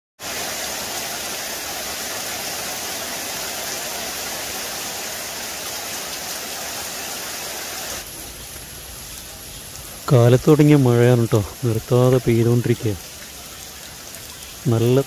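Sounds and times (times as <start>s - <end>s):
heavy rain: 0.2s - 15.0s
water streaming onto leaves: 0.2s - 15.0s.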